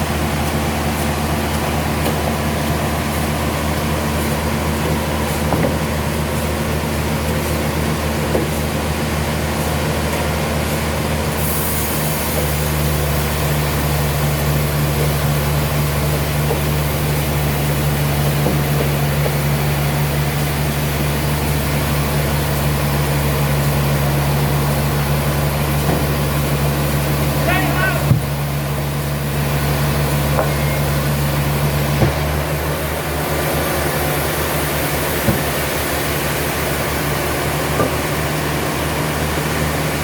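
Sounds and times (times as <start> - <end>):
sawmill machinery humming: 0.0 - 40.0.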